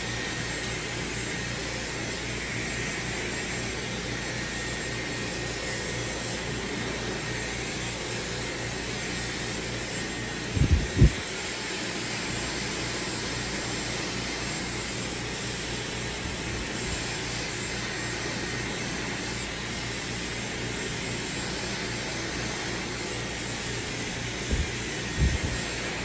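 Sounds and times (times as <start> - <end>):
hair dryer blowing with whine: 0.0 - 26.0.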